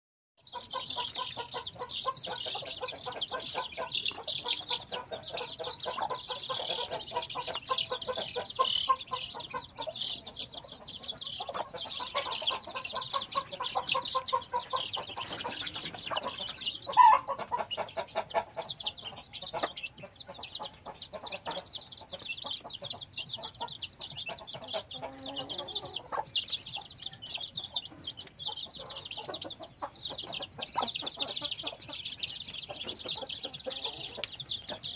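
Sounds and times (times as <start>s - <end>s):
chickens clucking: 0.4s - 34.9s
many birds chattering: 0.4s - 34.9s.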